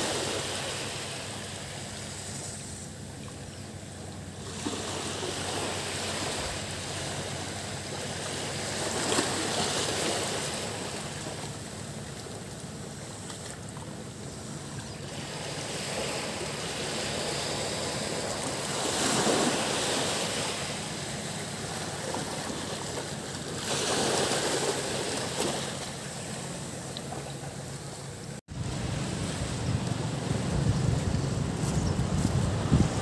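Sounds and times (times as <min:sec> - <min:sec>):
sea waves washing onto beach: 0:00.0 - 0:03.4, 0:04.0 - 0:33.0.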